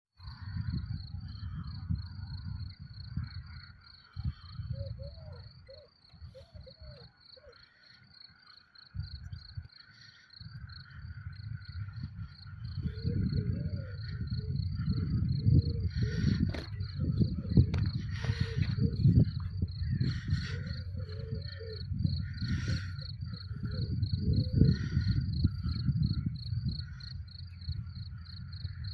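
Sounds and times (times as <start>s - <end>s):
crickets chirping: 0.2s - 28.9s.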